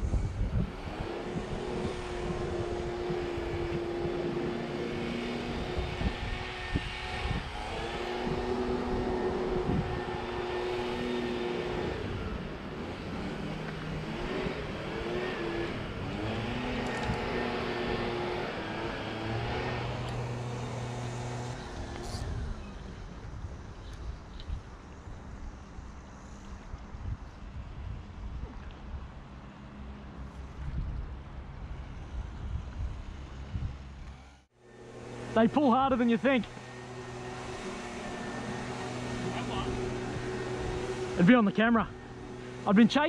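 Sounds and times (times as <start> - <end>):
wind noise: 0.0 - 29.4, 30.2 - 34.4, 36.2 - 43.0
engine drone: 0.0 - 43.0.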